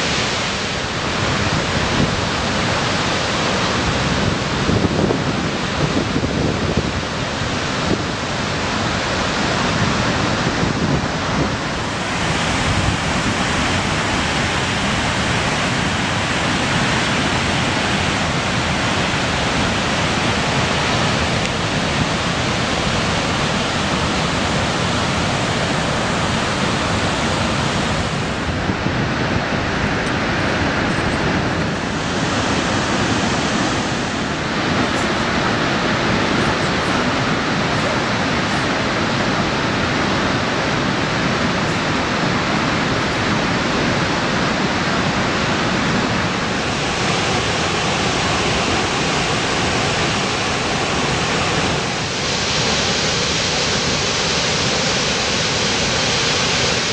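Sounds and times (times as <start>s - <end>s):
waterfall rushing: 0.0s - 6.2s, 6.8s - 56.9s.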